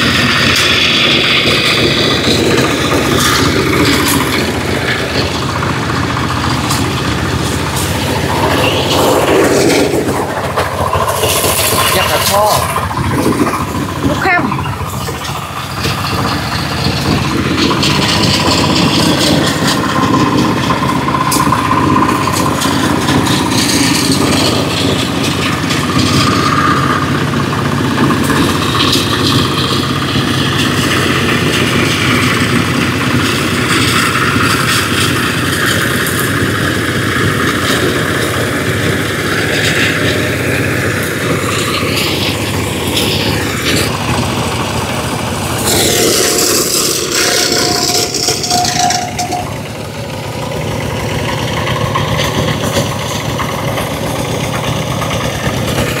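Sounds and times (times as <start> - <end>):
cutter mowing tall grass: 0.0 - 56.0
diesel engine running: 0.0 - 56.0.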